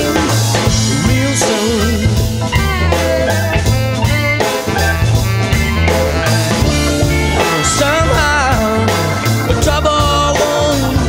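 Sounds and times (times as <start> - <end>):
rock song with guitar: 0.0 - 11.0
steady drum beat: 0.0 - 11.0.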